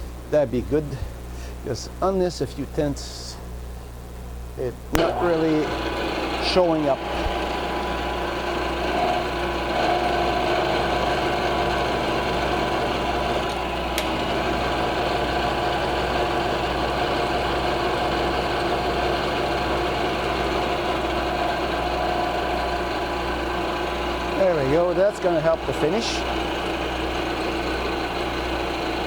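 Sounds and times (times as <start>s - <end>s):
milling machine hum and whine: 4.8s - 29.0s.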